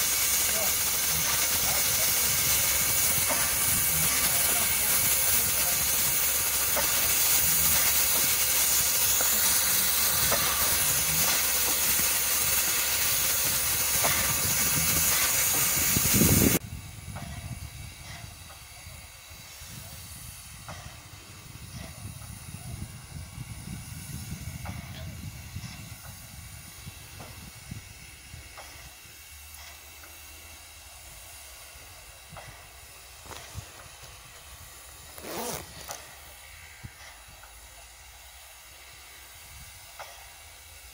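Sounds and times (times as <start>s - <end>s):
steam hissing from locomotive: 0.0s - 40.9s.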